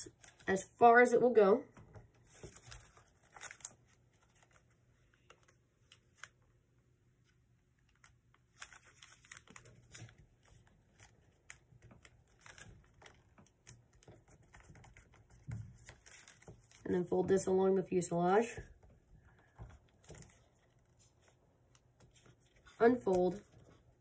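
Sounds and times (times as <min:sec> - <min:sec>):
paper being folded and creased: 0:00.0 - 0:00.6, 0:01.9 - 0:06.4, 0:07.2 - 0:17.1, 0:18.3 - 0:24.0.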